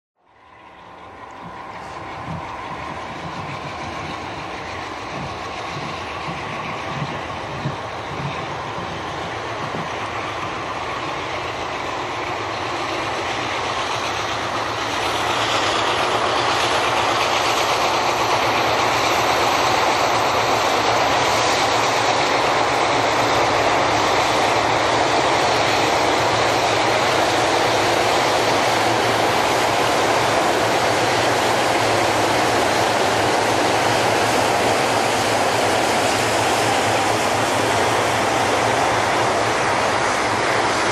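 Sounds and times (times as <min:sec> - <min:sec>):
diesel locomotives working: 0:00.2 - 0:40.9.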